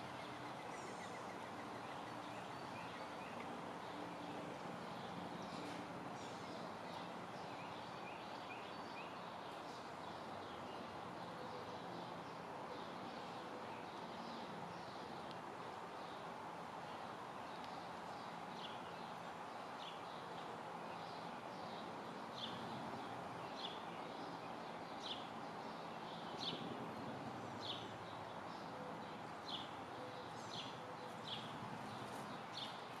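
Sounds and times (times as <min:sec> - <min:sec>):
steady outdoor hiss: 0:00.0 - 0:33.0.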